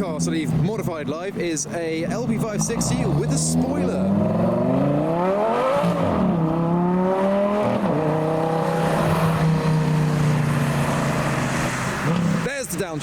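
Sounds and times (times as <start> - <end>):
sports car engine revving: 1.9 - 12.5.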